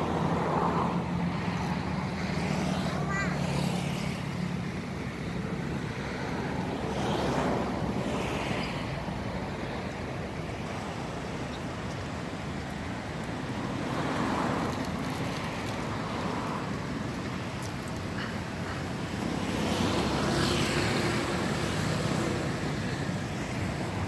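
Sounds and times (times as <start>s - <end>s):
outdoor rushing noise: 0.0s - 24.0s.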